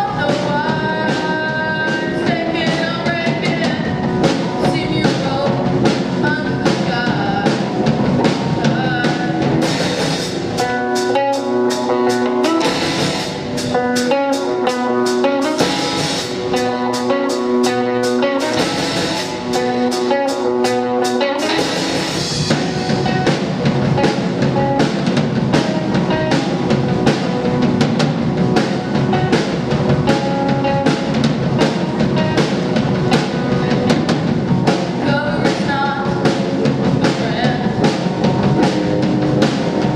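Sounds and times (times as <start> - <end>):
live rock band playing: 0.0 - 39.9
repeated guitar notes: 0.0 - 39.9
steady drum hits: 2.2 - 39.9.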